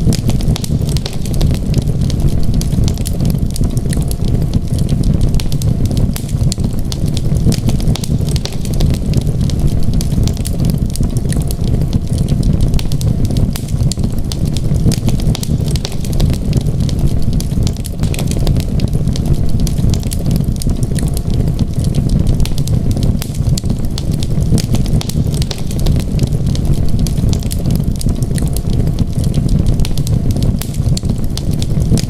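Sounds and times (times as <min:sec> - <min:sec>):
low rush of flame: 0:00.0 - 0:32.0
wood fire crackling and popping: 0:00.0 - 0:32.0.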